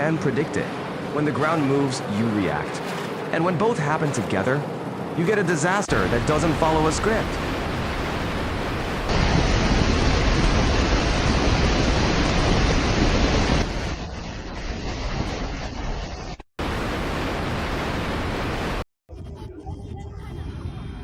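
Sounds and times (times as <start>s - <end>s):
water rushing: 0.0s - 18.8s.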